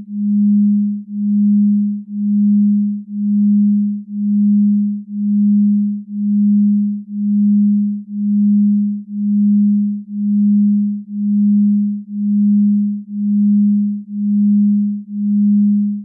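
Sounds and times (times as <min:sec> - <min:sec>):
pulsing low sine tone: 0:00.0 - 0:16.0.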